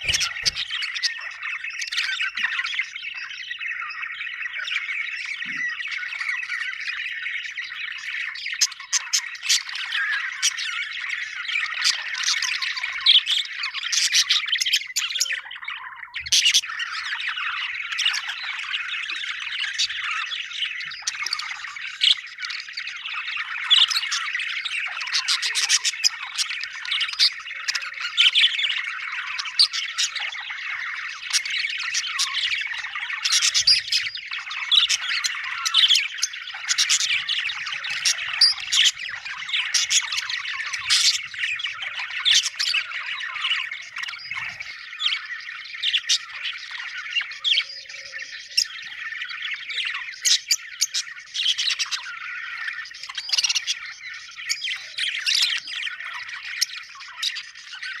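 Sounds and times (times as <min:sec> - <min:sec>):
budgerigars chirping: 0:00.0 - 0:58.0
loud bird squawks: 0:00.0 - 0:58.0.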